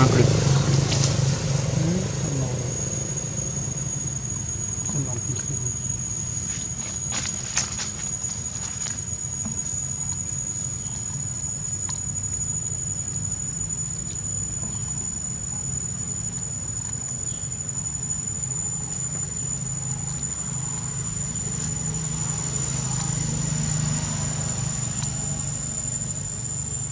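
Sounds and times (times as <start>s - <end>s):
high-pitched insect drone: 0.0s - 26.9s
low hum: 0.0s - 26.9s.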